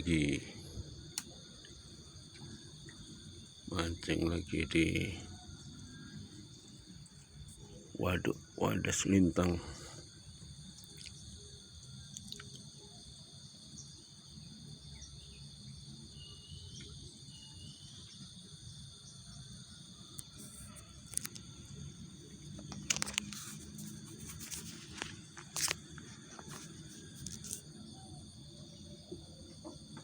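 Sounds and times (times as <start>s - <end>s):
insects chirring: 0.0s - 30.0s.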